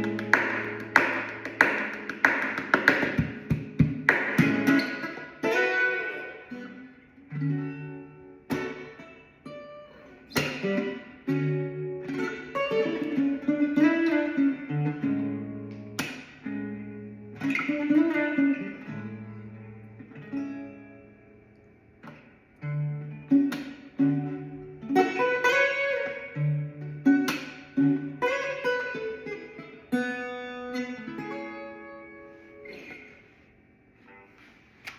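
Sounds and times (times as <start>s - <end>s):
percussive strikes on guitar: 0.0s - 20.4s, 22.0s - 30.1s
fingerstyle guitar playing: 0.0s - 34.9s.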